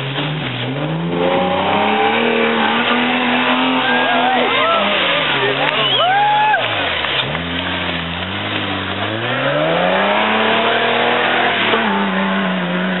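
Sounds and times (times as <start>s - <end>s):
truck engine revving: 0.0s - 13.0s
tyres churning through mud: 0.0s - 13.0s.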